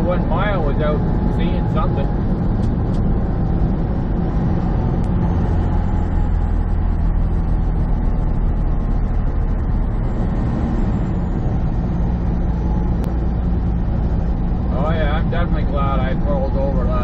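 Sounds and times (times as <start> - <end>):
diesel engine hum: 0.0 - 17.0
road tyre noise: 0.0 - 17.0.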